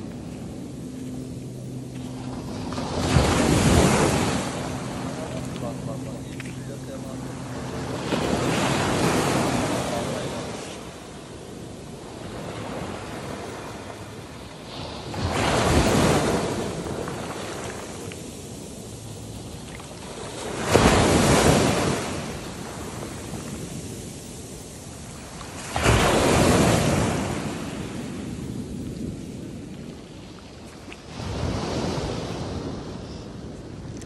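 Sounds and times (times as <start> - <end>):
waves washing over pebbles: 0.0 - 32.9.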